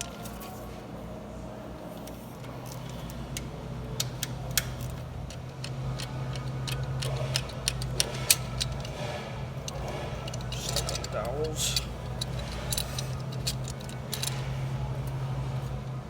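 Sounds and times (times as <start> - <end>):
steady low hum: 0.0 - 16.0
metallic clicks of tools and parts: 2.0 - 15.2.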